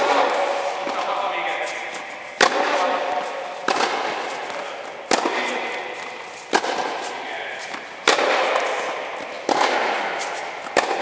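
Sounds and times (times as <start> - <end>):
tennis balls hit by rackets: 0.0 - 11.0.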